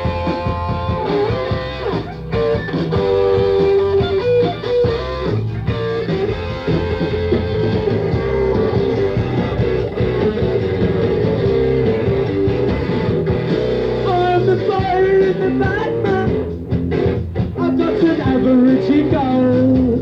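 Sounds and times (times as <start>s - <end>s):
electric guitar solo: 0.0s - 17.6s
punk rock band playing: 0.0s - 20.0s.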